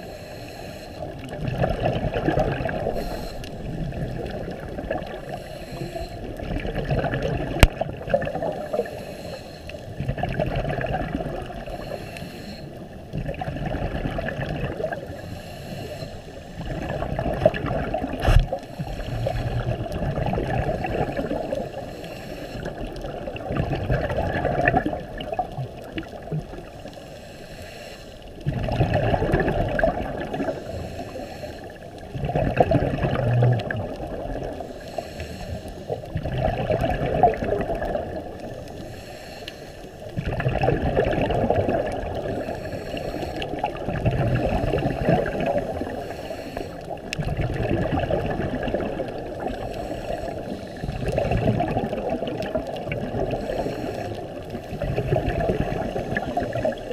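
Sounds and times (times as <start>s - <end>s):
diver's bubbles gurgling underwater: 1.0s - 12.0s, 12.8s - 15.2s, 16.5s - 21.9s, 22.6s - 27.0s, 28.3s - 38.8s, 40.0s - 46.1s, 46.7s - 56.9s.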